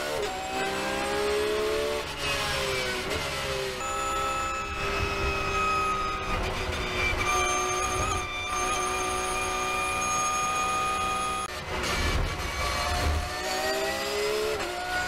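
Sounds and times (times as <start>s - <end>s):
racing engine at high revs: 0.0s - 15.0s.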